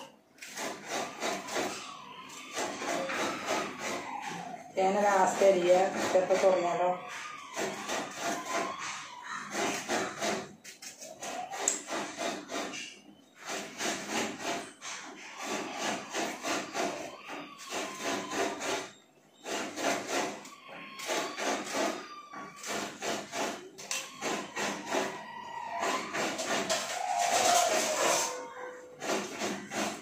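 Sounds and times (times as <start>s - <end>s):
knife scraping a vegetable: 0.0s - 30.0s.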